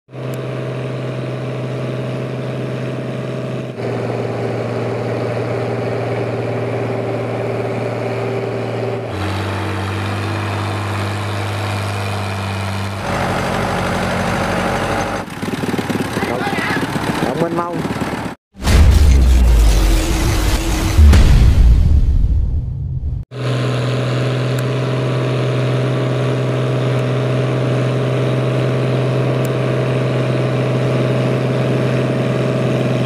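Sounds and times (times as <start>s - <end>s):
tractor engine running under load: 0.1s - 18.4s, 23.4s - 33.0s.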